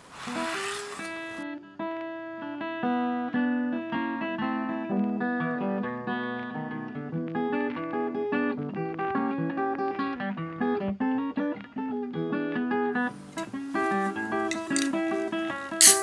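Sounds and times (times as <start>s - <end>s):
acoustic guitar piece: 0.0s - 16.0s.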